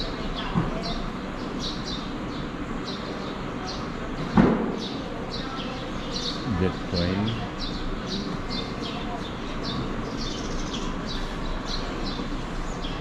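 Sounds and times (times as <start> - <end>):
small birds chirping: 0.0 - 13.0
steady background noise: 0.0 - 13.0.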